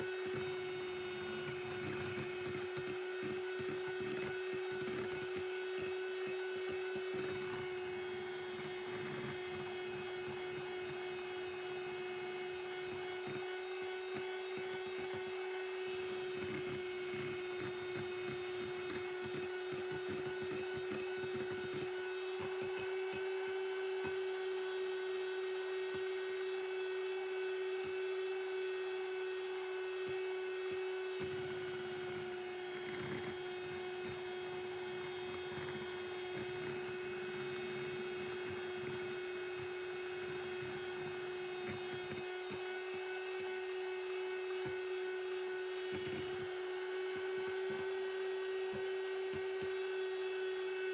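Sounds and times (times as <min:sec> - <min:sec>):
electric mixer motor whine: 0:00.0 - 0:50.9.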